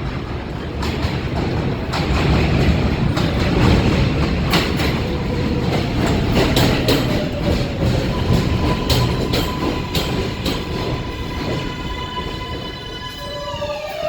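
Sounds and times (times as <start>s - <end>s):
subway train rumbling: 0.0s - 14.0s
wheel clacks over rail joints: 0.1s - 11.8s.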